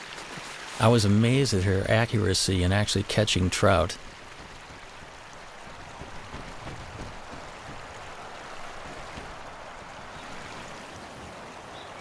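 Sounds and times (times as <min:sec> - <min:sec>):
steady rushing noise: 0:00.9 - 0:12.0.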